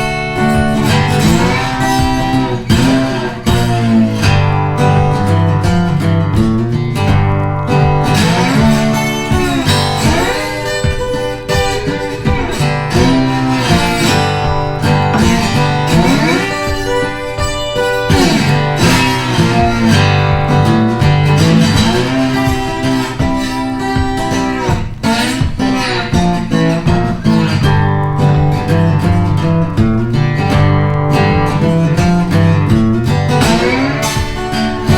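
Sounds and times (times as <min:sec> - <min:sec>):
guitar music with sliding notes: 0:00.0 - 0:34.9
steady bass: 0:00.0 - 0:34.9.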